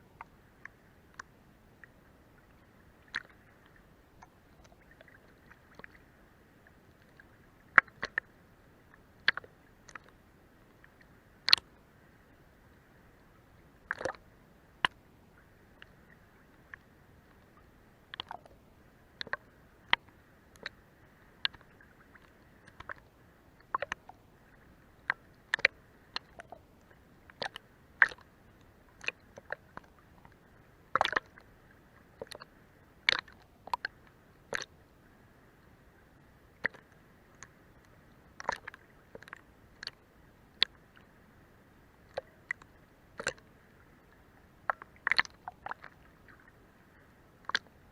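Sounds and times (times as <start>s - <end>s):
faint steady hiss: 0.0s - 47.9s
small waves lapping against boat hull: 0.0s - 47.9s.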